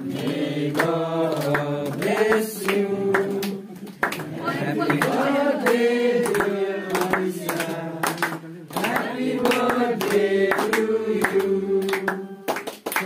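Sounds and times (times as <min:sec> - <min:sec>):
group singing a celebration song: 0:00.0 - 0:13.0
people clapping in time: 0:00.0 - 0:13.0.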